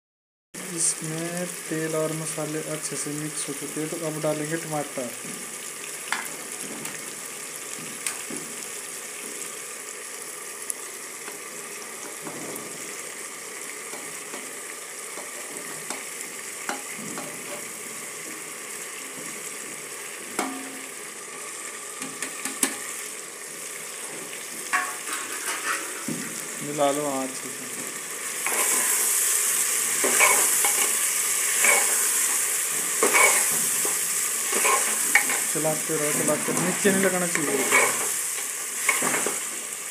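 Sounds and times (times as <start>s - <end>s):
meat sizzling in hot oil: 0.6s - 39.9s.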